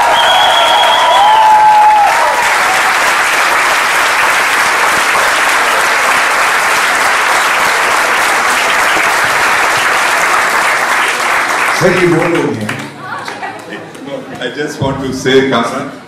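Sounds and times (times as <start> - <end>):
crowd cheering: 0.0 - 14.2
audience applauding: 0.0 - 14.6.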